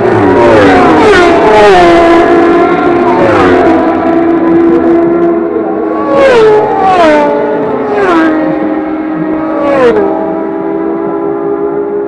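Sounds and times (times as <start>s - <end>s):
distant engines: 0.0s - 12.0s
motorcycles passing at full throttle: 0.0s - 12.0s.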